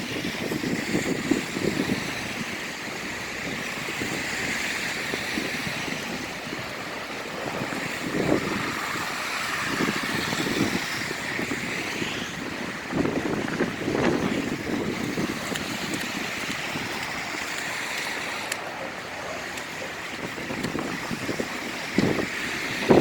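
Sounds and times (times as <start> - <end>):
hiss of wind and snow: 0.0 - 23.0
vehicles passing on slush: 0.0 - 23.0.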